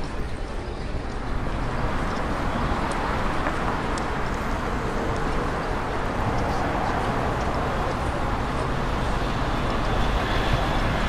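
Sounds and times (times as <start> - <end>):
road noise from passing cars: 0.0 - 11.0.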